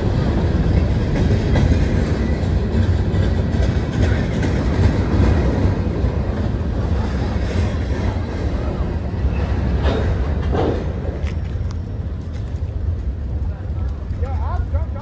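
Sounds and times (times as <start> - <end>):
freight train wheels rumbling: 0.0 - 15.0
wheels clicking and clattering: 0.0 - 15.0.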